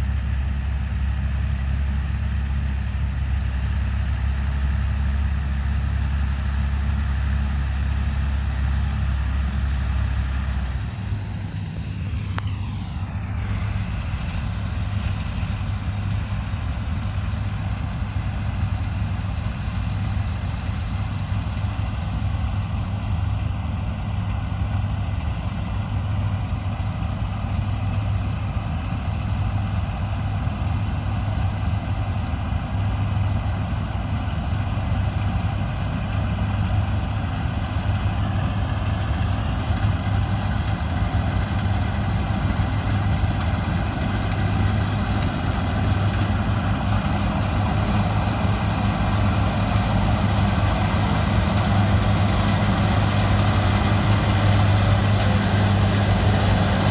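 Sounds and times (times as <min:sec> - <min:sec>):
large diesel engine running: 0:00.0 - 0:56.9.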